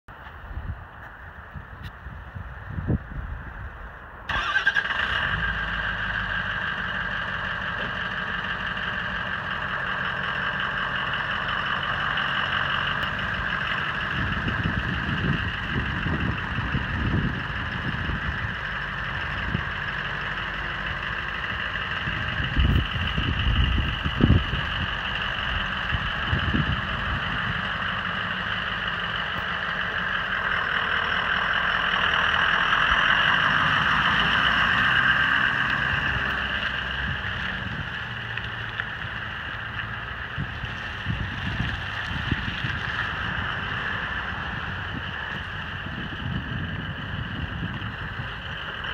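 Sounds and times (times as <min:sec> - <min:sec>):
truck engine idling: 0:00.1 - 0:48.9.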